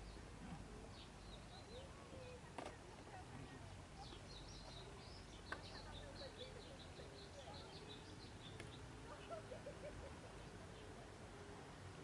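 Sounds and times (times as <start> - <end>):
small birds chirping: 0.0 - 11.8
outdoor background noise: 0.0 - 12.0.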